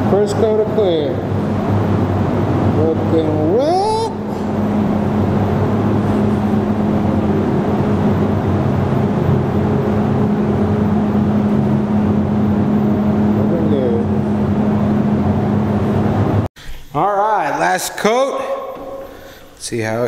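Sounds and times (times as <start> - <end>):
constant low hum: 0.0 - 20.0
ventilation fan air rush: 0.0 - 20.0.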